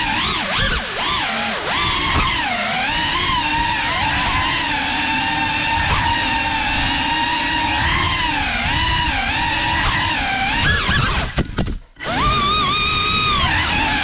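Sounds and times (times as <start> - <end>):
drone motors and propellers whining: 0.0 - 14.0.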